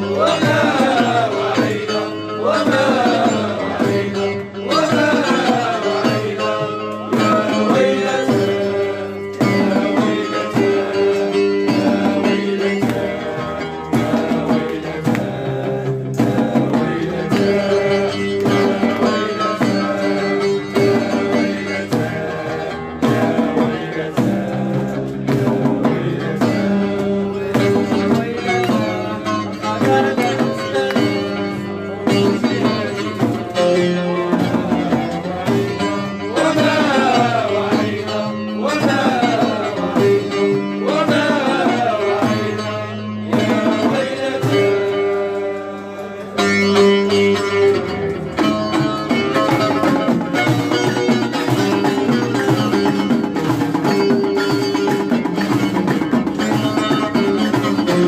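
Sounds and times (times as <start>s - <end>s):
hand drums: 0.0s - 58.0s
plucked string instruments: 0.0s - 58.0s.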